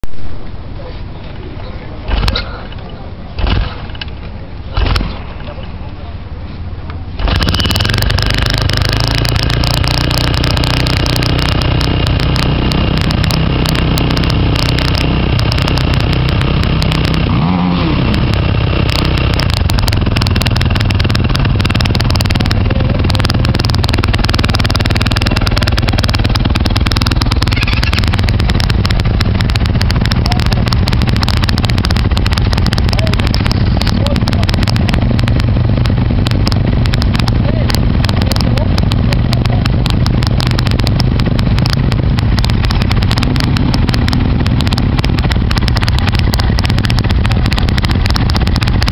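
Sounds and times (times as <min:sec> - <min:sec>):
quad engine starting and idling: 0:02.0 - 0:06.0, 0:06.8 - 0:48.9.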